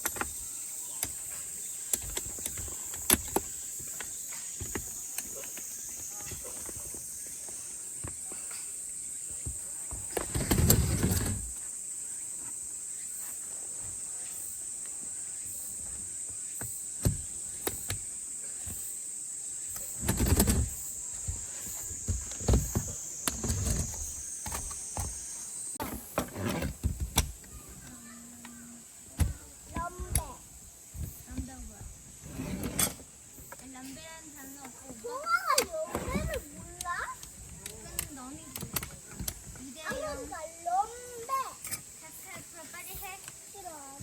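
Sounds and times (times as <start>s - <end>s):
cicadas droning: 0.0s - 44.0s.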